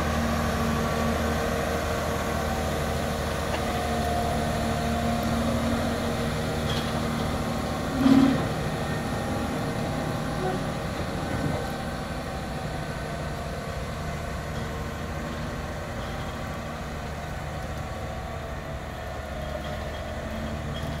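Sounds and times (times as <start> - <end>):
diesel engine at low revs: 0.0 - 21.0.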